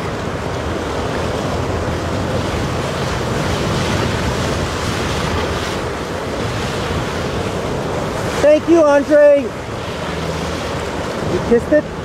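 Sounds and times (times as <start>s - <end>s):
surf: 0.0s - 12.0s
wind: 0.0s - 12.0s
wind buffeting microphone: 0.0s - 12.0s.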